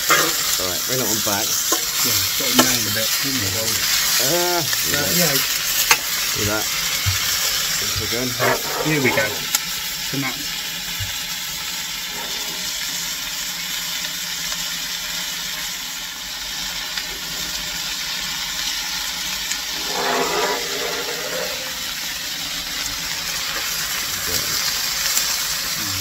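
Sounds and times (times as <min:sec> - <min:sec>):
coal fire rushing: 0:00.0 - 0:13.9, 0:16.5 - 0:26.0
vegetables sizzling in oil: 0:00.0 - 0:26.0.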